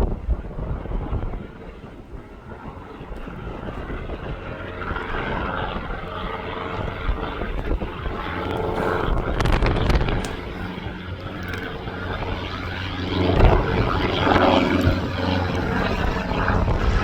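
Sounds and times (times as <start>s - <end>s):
aircraft engines: 0.0s - 17.0s
steady whine: 0.0s - 17.0s
wind buffeting microphone: 0.0s - 17.0s.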